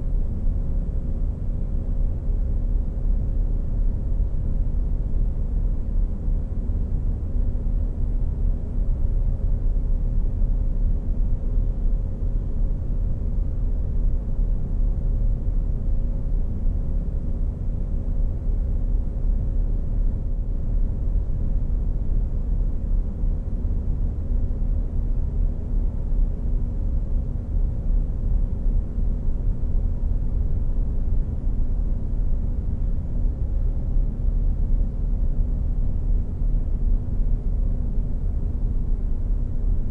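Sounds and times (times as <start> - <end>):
faint constant hum: 0.0 - 39.9
steady low rumble: 0.0 - 39.9.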